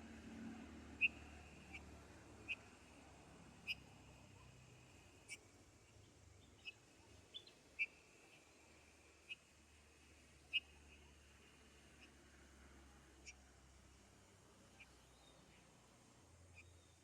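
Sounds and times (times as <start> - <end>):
small bird chirping: 0.8 - 17.0.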